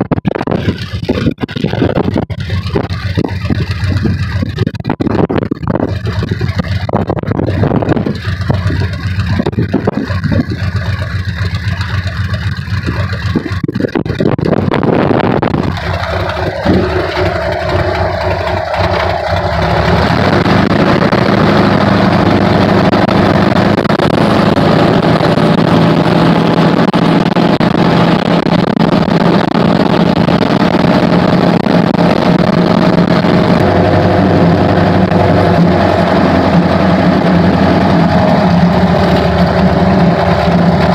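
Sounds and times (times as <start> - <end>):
propeller plane engine running: 0.0 - 40.9
wind noise: 0.0 - 40.9.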